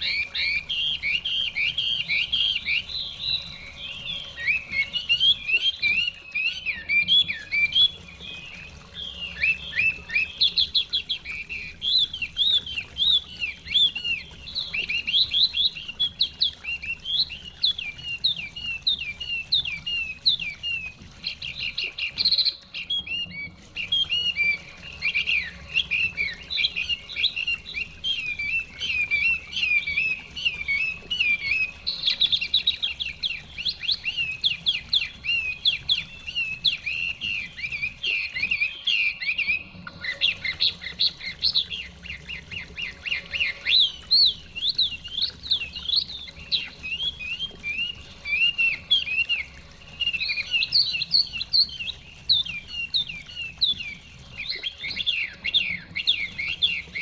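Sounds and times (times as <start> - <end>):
songbird singing whistled phrases: 0.0 - 57.0.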